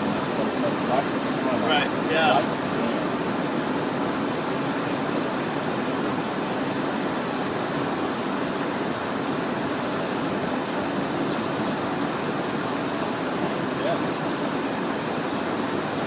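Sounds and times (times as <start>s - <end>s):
jet engines droning: 0.0s - 16.0s.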